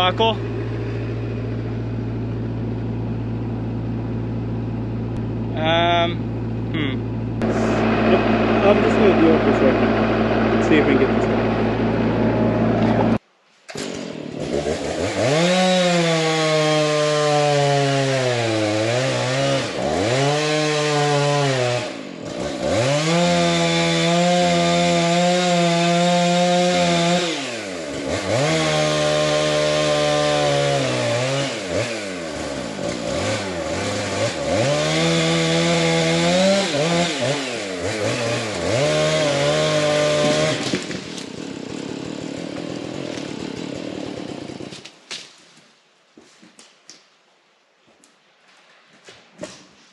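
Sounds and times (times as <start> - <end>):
chainsaw cutting wood: 0.0 - 3.7, 7.4 - 45.4.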